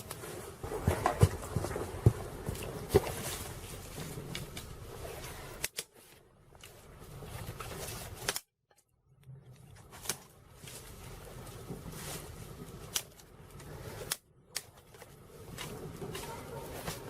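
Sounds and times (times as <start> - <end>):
dry brushwood rustling and snapping: 0.0 - 17.0.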